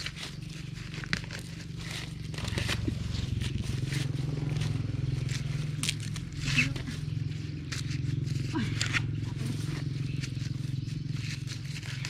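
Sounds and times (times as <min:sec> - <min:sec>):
dry corn plants crackling: 0:00.0 - 0:12.0
small engine running: 0:00.0 - 0:12.0.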